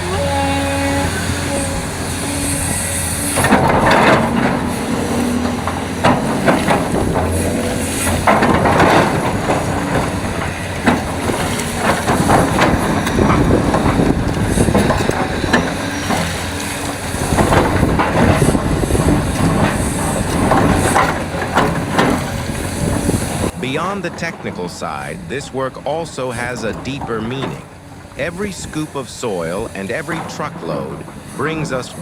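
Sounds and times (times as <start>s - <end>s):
excavator diesel engine running: 0.0s - 32.0s
metal and rock clanking: 0.0s - 32.0s.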